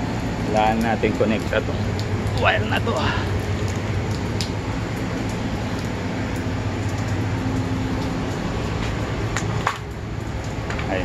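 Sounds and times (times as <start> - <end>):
low machinery drone: 0.0 - 11.0.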